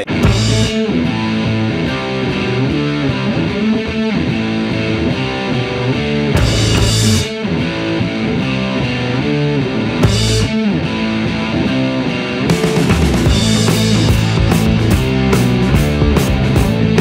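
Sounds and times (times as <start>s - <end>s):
rock music with distorted guitar: 0.0s - 17.0s.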